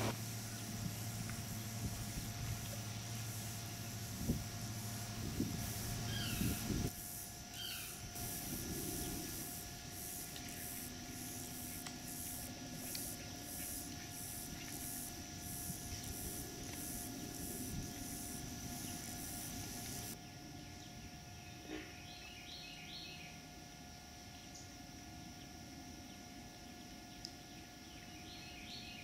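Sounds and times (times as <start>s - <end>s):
insects pulsing buzz: 0.0s - 29.0s.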